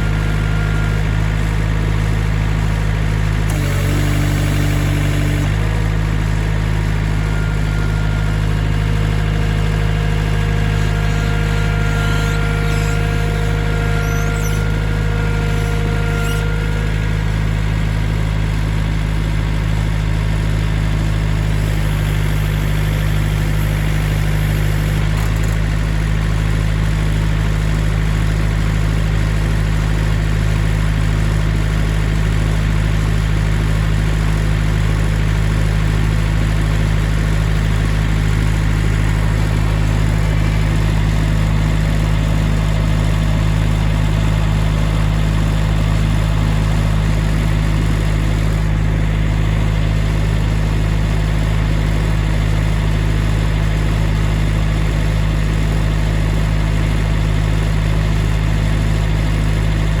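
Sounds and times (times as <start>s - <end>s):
engine running with deep hum: 0.0s - 60.0s.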